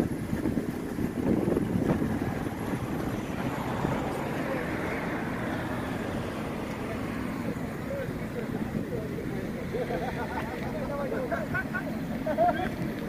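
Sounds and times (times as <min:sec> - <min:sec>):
wind buffeting microphone: 0:00.0 - 0:11.2
car engine idling: 0:00.0 - 0:13.0.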